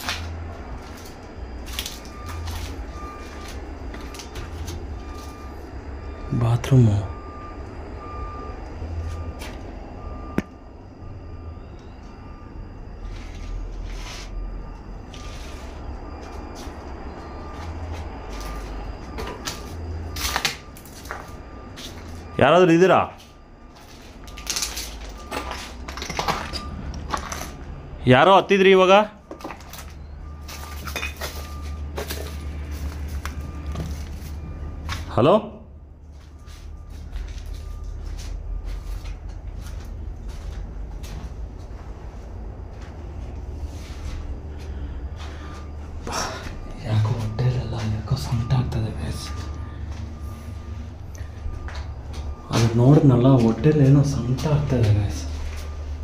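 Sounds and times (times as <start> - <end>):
low steady drone: 0.0 - 28.1, 29.2 - 56.0.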